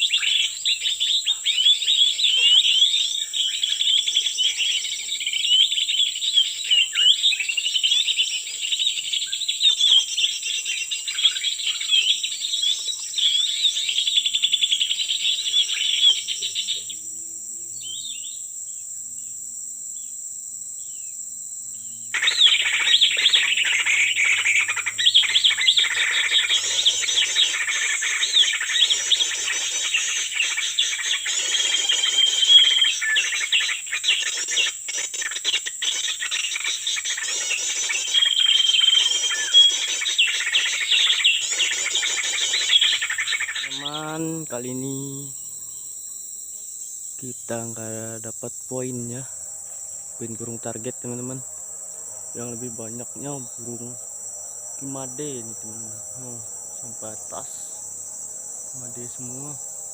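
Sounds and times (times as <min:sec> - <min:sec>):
birds chirping and twittering: 0:00.0 - 0:59.9
high insect drone: 0:00.0 - 0:59.9.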